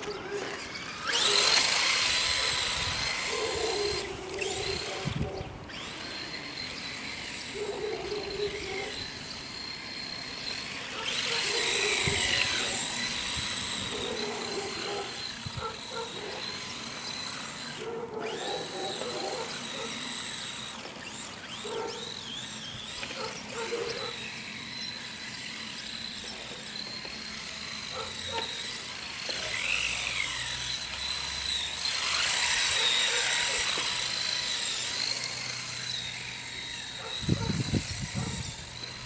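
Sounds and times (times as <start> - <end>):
toy car motor whining: 0.0 - 39.0.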